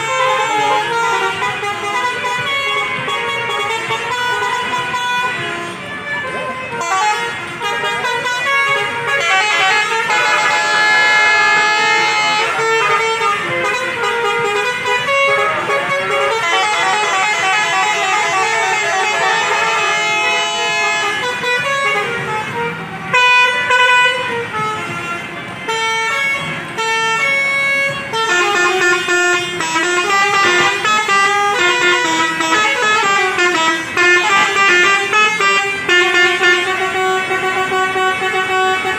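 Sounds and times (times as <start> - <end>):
musical bus horns: 0.0 - 38.9.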